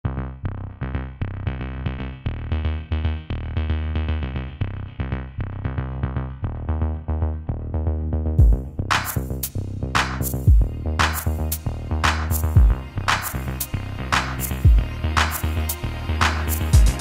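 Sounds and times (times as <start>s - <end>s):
music with heavy bass: 0.0s - 17.0s.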